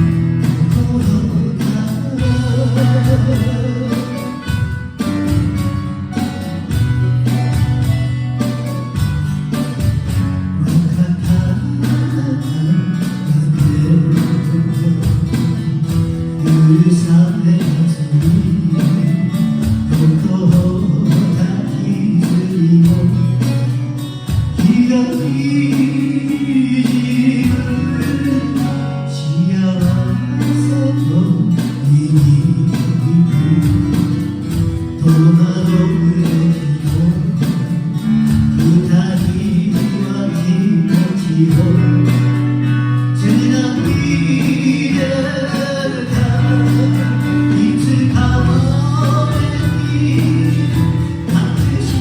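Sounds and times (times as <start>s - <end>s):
person singing: 0.0s - 5.2s, 10.4s - 23.5s, 24.5s - 52.0s
strummed acoustic guitar: 0.0s - 52.0s.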